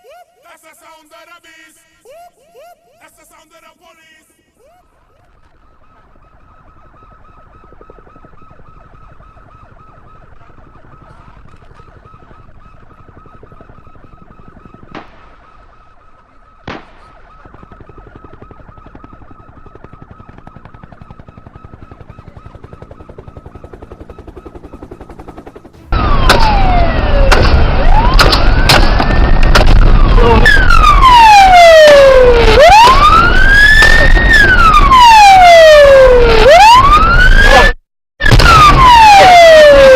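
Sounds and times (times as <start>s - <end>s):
police sirens wailing: 5.1s - 39.9s.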